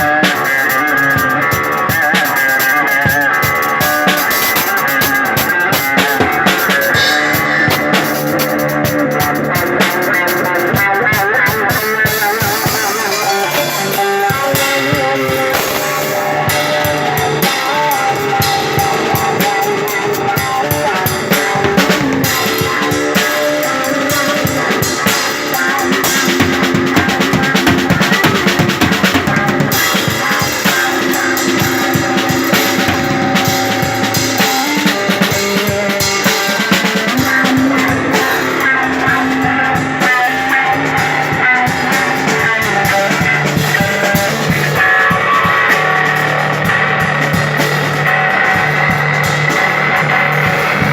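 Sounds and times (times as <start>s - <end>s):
drum kit with cymbal hits: 0.0s - 50.9s
electric guitar playing: 0.0s - 50.9s.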